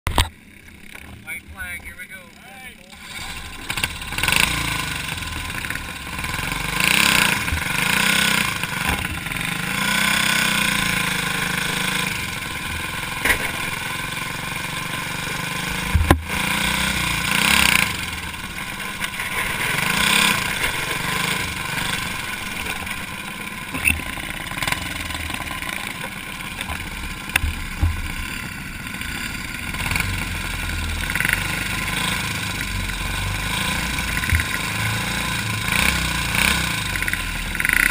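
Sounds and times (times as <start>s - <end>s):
kart engine revving: 0.4s - 37.9s.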